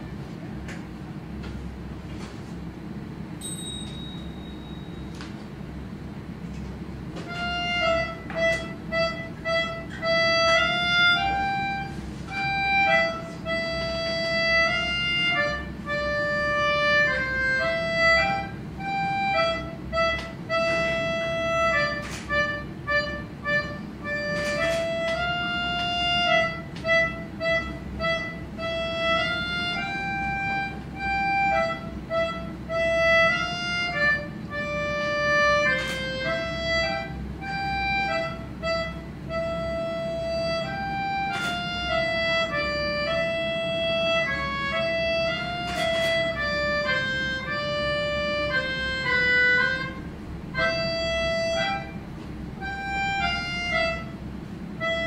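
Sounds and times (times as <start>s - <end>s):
melodica slow melody: 7.2s - 55.0s.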